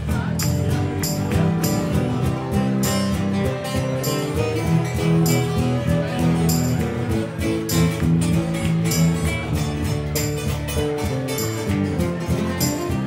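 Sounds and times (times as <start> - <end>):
bass guitar: 0.0 - 13.0
drum and cymbal hits: 0.0 - 13.0
electric guitar: 0.0 - 13.0.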